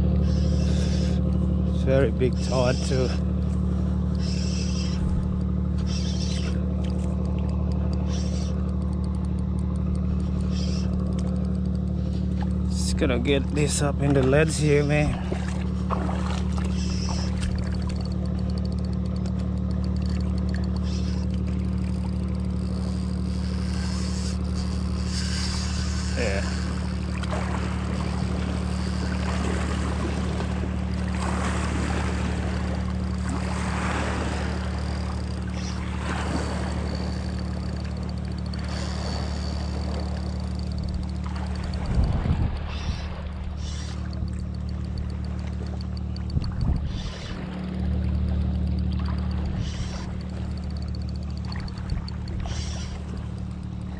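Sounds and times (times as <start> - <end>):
motor humming: 0.0 - 53.9.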